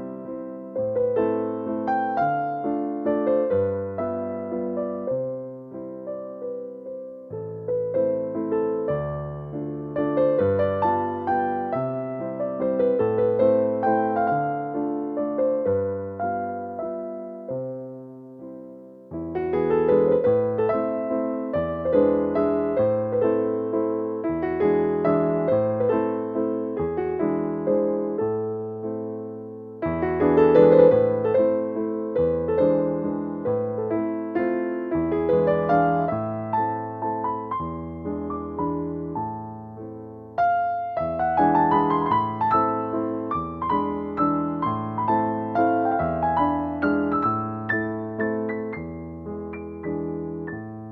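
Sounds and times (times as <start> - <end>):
calm piano music: 0.0 - 50.9.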